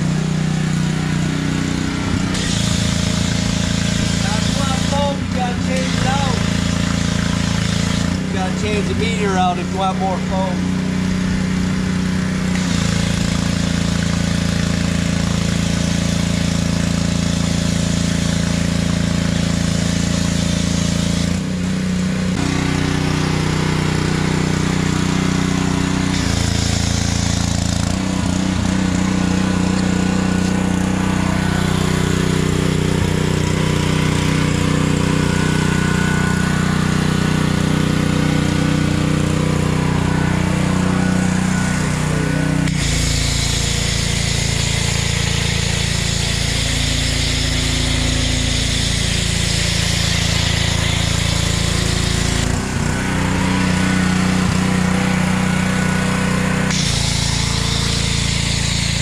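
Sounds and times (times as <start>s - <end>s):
pressure washer engine running: 0.0s - 59.0s
hissing spray: 1.7s - 8.9s, 12.5s - 21.4s, 22.4s - 59.0s.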